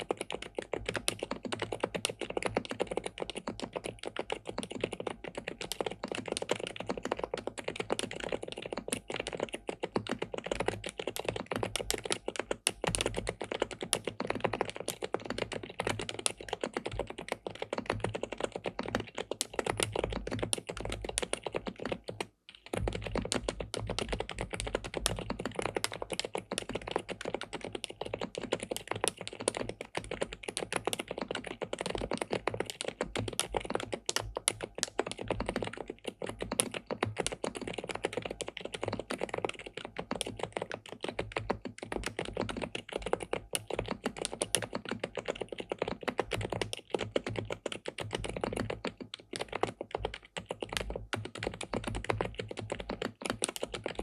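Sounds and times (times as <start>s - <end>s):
fast mechanical keyboard typing: 0.0s - 54.0s.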